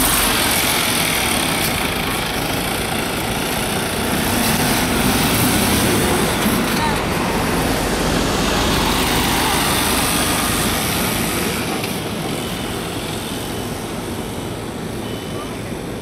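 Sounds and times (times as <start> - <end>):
truck diesel engine driving past: 0.0 - 14.8
truck tyre noise: 0.0 - 16.0.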